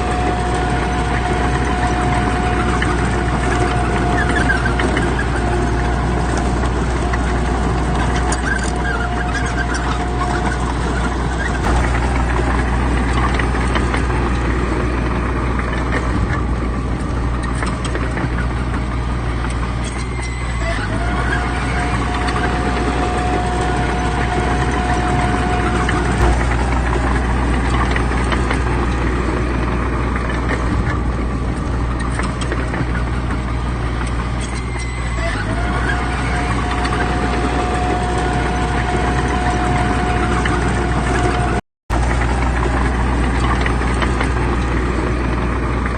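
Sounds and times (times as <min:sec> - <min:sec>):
high whine: 0:00.0 - 0:15.7, 0:20.2 - 0:30.0, 0:34.7 - 0:45.9
bulldozer engine drone: 0:00.0 - 0:45.9.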